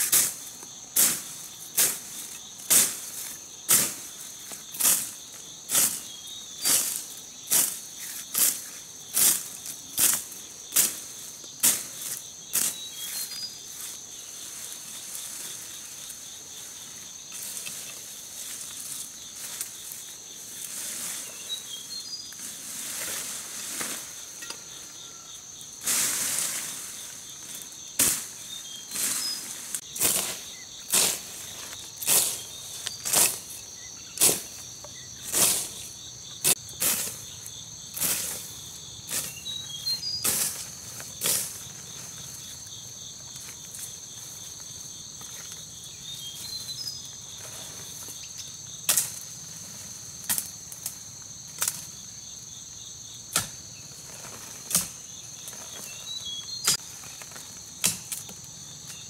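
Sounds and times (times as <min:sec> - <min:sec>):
leaves rustling: 0:00.0 - 0:52.7, 0:53.6 - 0:59.0
high insect drone: 0:00.0 - 0:59.0.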